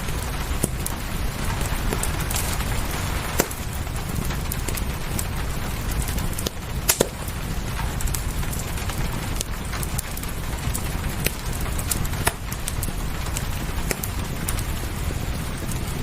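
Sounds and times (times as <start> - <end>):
rain hissing: 0.0 - 16.0
wood fire crackling: 0.0 - 16.0.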